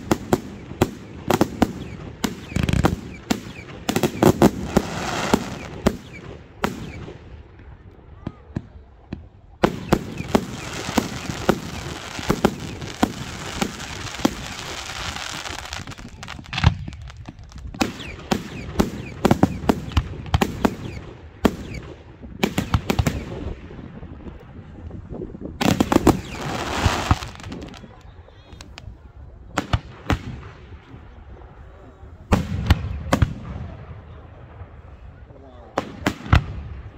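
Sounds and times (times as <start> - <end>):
fireworks bangs: 0.0 - 24.0, 25.6 - 28.9, 32.3 - 35.0.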